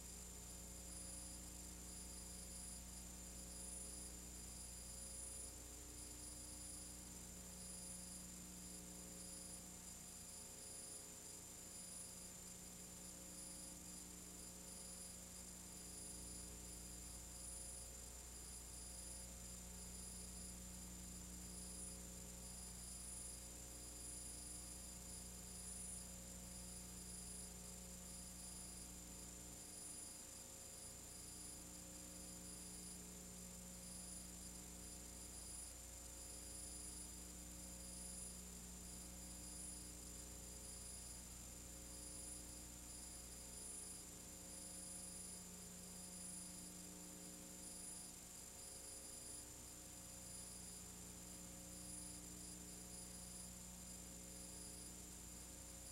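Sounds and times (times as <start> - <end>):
electrical mains hum: 0.0 - 55.9
thin high whine and hiss: 0.0 - 55.9.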